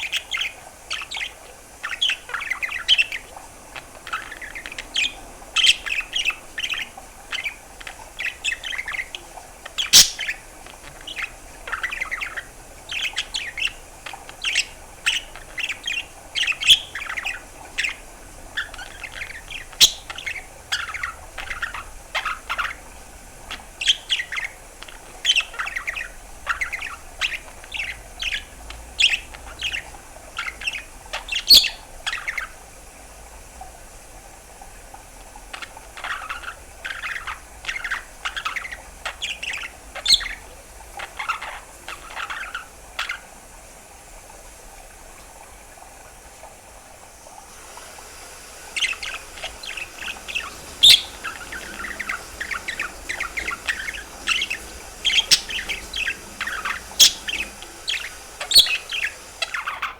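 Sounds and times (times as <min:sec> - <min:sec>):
budgerigar chirping: 0:00.0 - 0:22.9, 0:23.5 - 0:32.6, 0:35.6 - 0:43.3, 0:48.6 - 0:59.9.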